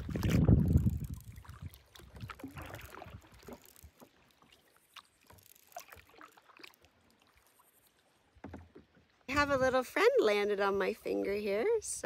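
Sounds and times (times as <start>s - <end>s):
kayak paddle splashing water: 0.0s - 9.8s.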